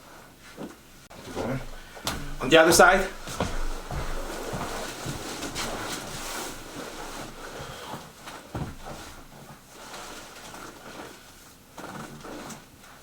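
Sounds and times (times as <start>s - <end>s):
rustling on treatment table: 0.3s - 13.0s.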